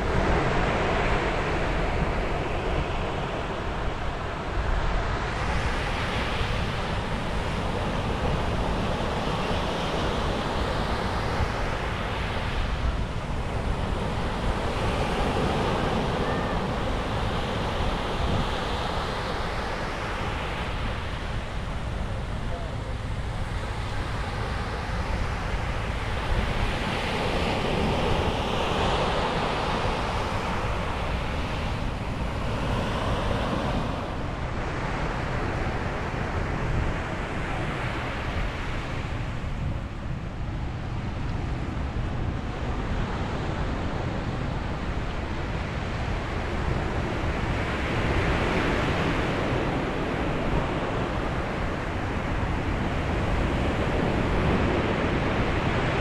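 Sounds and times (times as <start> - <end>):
ocean waves breaking on beach: 0.0 - 56.0
wind rumbling on microphone: 0.0 - 56.0.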